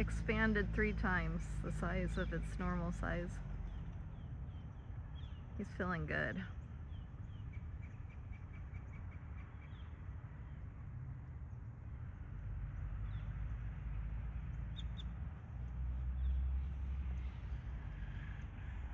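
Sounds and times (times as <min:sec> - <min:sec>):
low outdoor rumble: 0:00.0 - 0:18.9.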